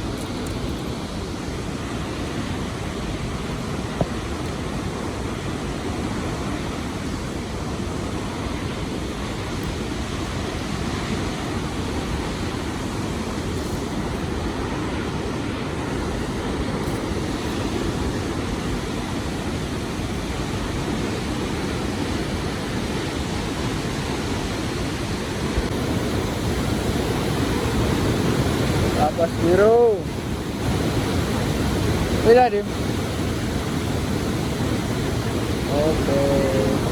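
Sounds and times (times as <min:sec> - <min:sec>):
waterfall and river roar: 0:00.0 - 0:36.9.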